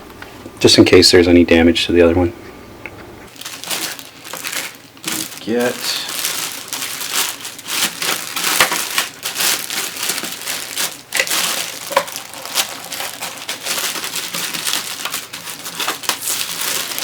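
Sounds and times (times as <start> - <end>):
packaging crinkling: 3.3 - 17.0.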